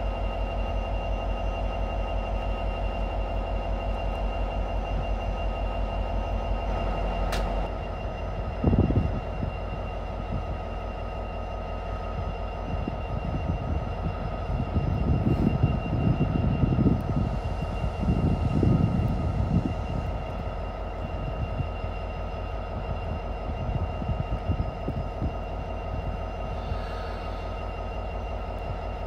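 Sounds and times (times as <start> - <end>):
high whine: 0.0 - 29.0
locomotive engine droning: 0.0 - 29.0.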